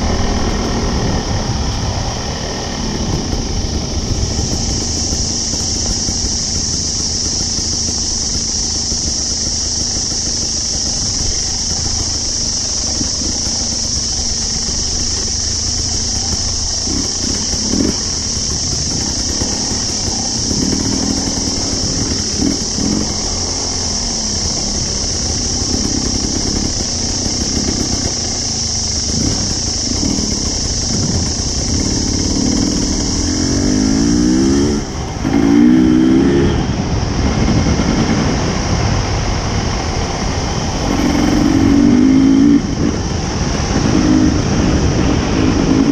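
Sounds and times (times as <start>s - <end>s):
high-pitched drone: 0.0s - 45.9s
motorcycle engine revving: 0.0s - 45.9s.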